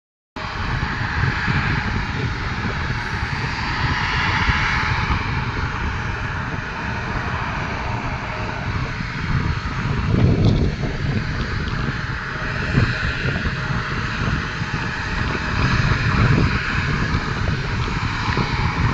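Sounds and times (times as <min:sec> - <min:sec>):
aircraft engines at takeoff power: 0:00.4 - 0:18.9
low rumble: 0:00.4 - 0:18.9
wind buffet on microphone: 0:00.4 - 0:18.9.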